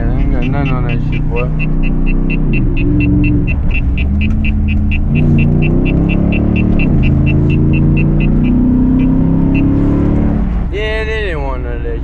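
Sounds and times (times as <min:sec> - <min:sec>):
steady high ticking: 0:00.0 - 0:10.4
car exhaust under way: 0:00.0 - 0:11.0.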